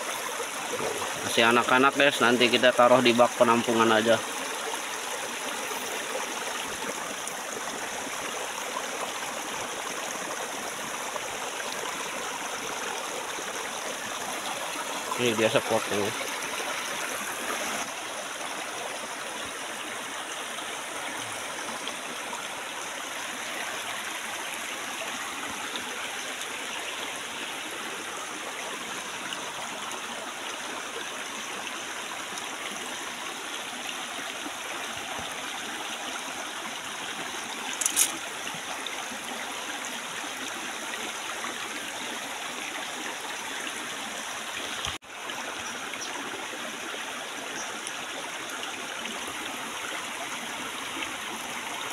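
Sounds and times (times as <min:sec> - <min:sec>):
stream rushing over stones: 0:00.0 - 0:51.9.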